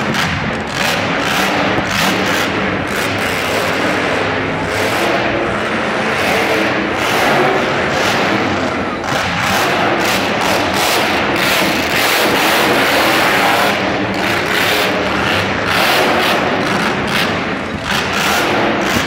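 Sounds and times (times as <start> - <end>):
truck engine revving loudly: 0.0 - 19.0.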